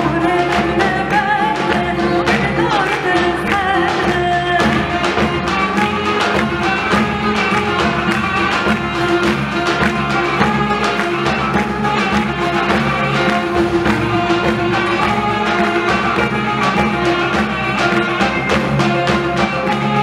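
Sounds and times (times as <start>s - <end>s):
folk ensemble playing: 0.0s - 20.0s
steady percussive beat: 0.0s - 20.0s.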